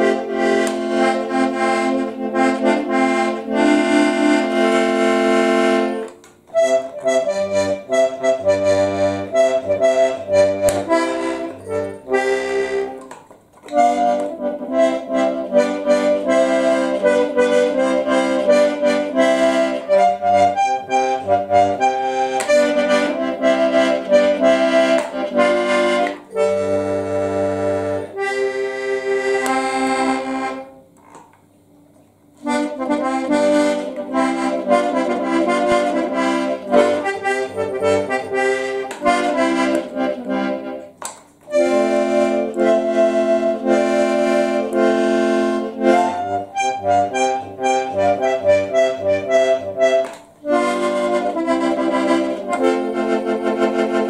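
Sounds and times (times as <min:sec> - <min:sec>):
button accordion melody: 0:00.0 - 0:54.0.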